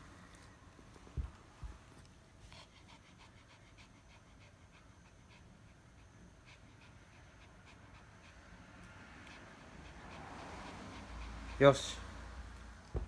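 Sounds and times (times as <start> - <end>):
dog panting faintly: 0.0 - 13.0.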